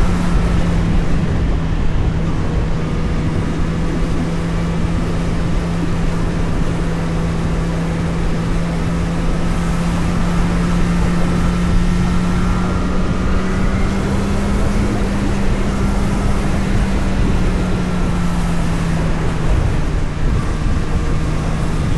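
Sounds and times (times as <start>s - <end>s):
road and wind rush: 0.0s - 21.9s
vehicle engine droning: 0.0s - 21.9s.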